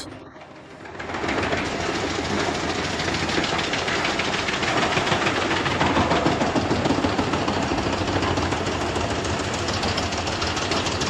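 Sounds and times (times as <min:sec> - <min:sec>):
wood chipper rattling: 0:00.8 - 0:11.0.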